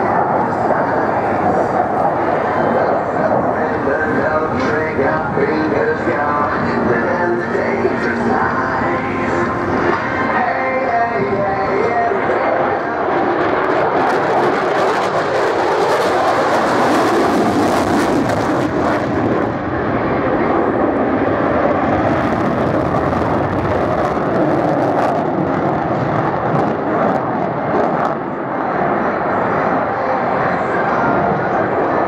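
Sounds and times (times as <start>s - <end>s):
jet fighter flying past: 0.0s - 32.0s
loud rush of jet noise: 0.0s - 32.0s.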